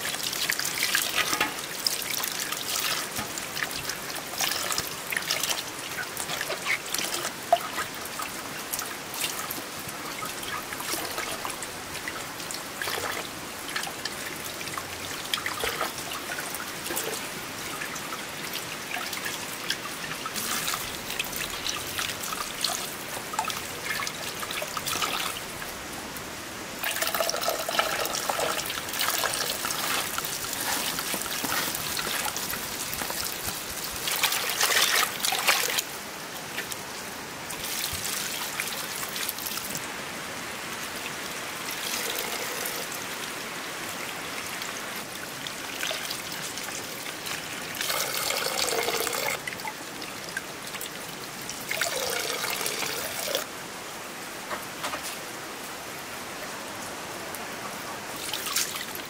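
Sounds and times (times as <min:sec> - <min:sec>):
water pouring and splashing: 0:00.0 - 0:53.5, 0:58.0 - 0:59.0.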